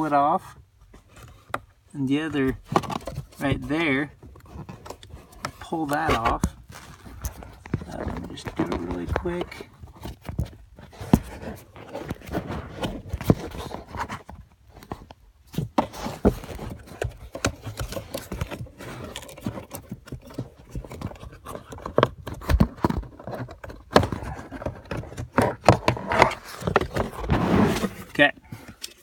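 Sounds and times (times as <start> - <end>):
plastic parts clicking and scraping: 2.3 - 29.0.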